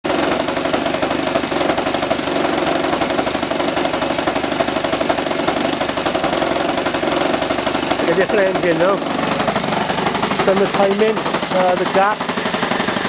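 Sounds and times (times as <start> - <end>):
model aircraft engine running: 0.1 - 13.0.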